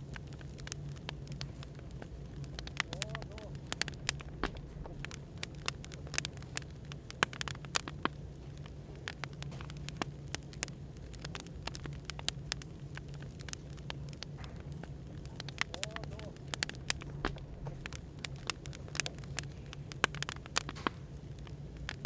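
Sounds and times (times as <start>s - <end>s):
low background hum: 0.0s - 22.0s
wood fire crackling and popping: 0.0s - 22.0s.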